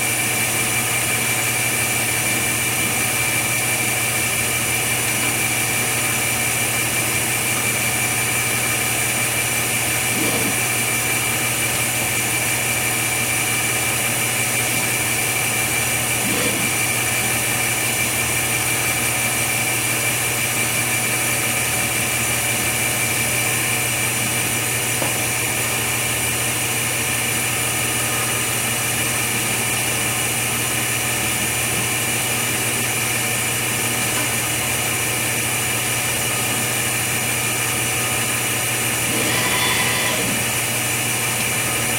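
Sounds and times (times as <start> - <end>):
machine hum with high whine: 0.0 - 41.9.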